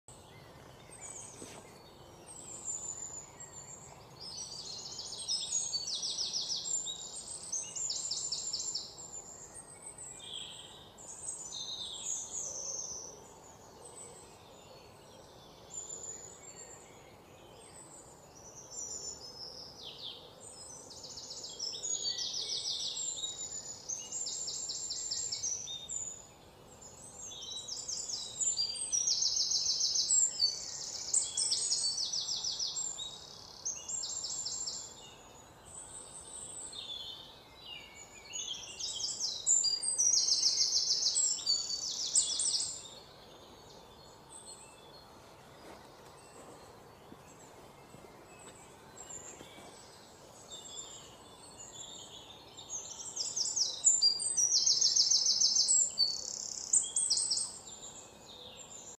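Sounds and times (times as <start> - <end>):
faint background hiss: 0.1 - 58.9
songbirds chirping and trilling: 0.1 - 58.9.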